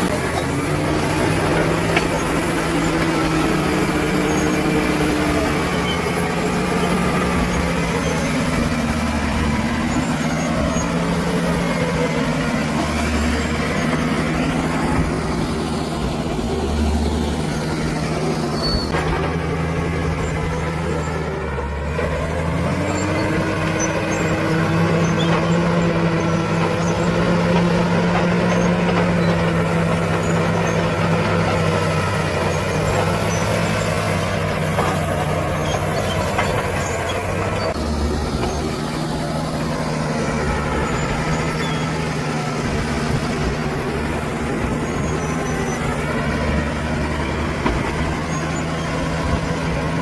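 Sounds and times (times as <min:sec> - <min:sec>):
bulldozer diesel engine: 0:00.0 - 0:50.0.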